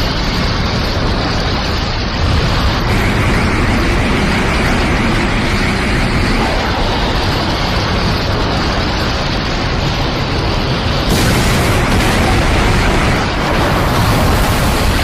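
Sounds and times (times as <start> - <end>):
loud rumbling roar: 2.1 - 15.0.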